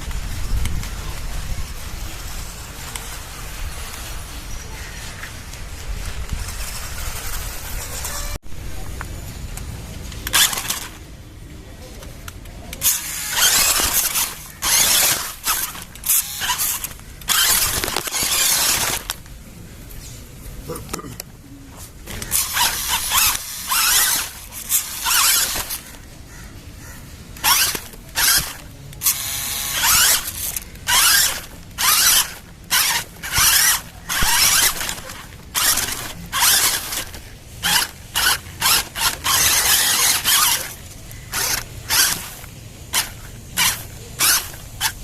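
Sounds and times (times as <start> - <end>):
electric motor and gearbox whine: 0.0 - 11.0, 12.7 - 19.3, 22.1 - 26.0, 27.4 - 45.0.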